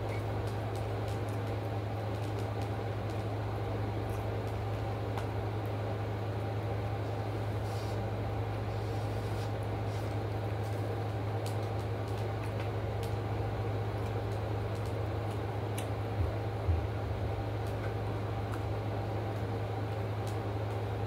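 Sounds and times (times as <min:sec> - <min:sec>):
appliance humming: 0:00.0 - 0:21.0.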